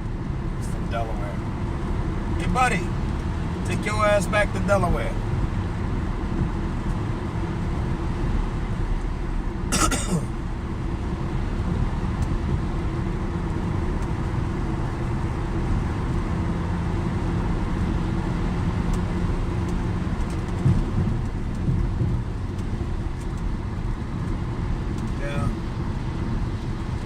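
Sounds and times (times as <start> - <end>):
car cabin road and engine rumble: 0.0 - 27.0.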